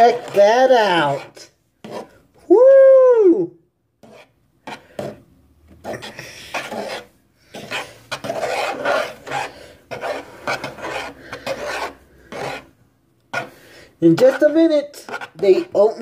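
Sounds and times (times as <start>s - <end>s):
scraping and rubbing strokes: 0.0s - 2.2s, 4.0s - 5.2s, 5.8s - 16.0s.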